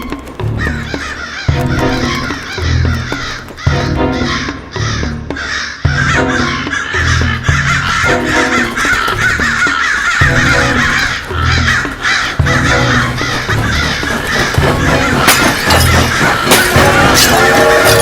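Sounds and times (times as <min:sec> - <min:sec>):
crows cawing: 0:00.0 - 0:18.0.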